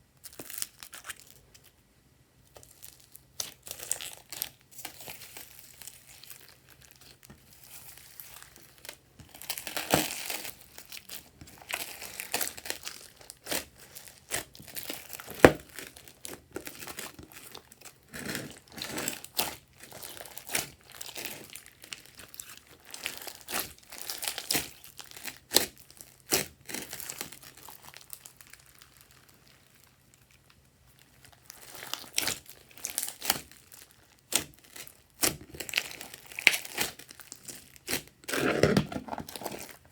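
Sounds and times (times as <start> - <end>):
hands squishing sticky slime: 2.6 - 29.6, 31.1 - 39.9.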